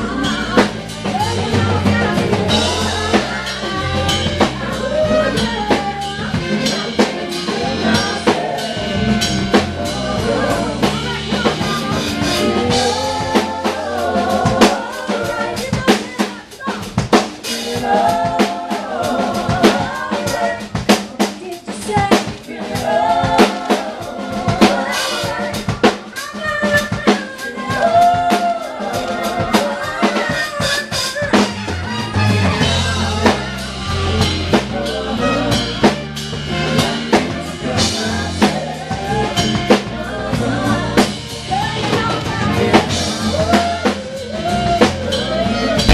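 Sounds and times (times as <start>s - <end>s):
rock band playing: 0.0s - 45.9s.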